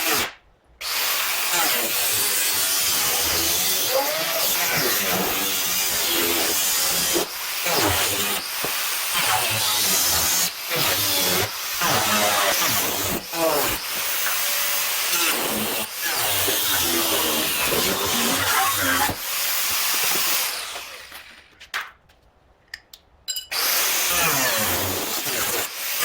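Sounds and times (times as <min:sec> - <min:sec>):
power tool cutting sheet metal: 0:00.0 - 0:21.4, 0:23.6 - 0:26.0.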